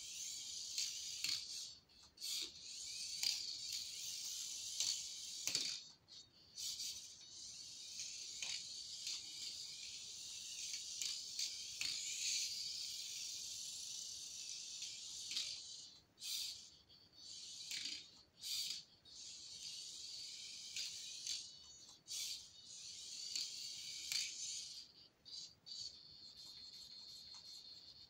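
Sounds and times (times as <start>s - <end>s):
toy car motor whining: 0.0s - 28.0s.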